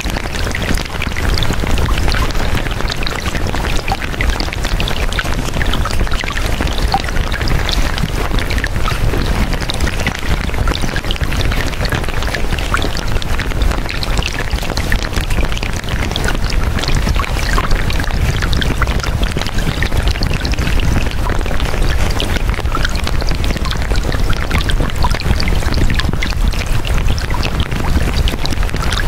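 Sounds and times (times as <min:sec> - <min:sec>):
dense steady hiss with crackles: 0:00.0 - 0:29.0.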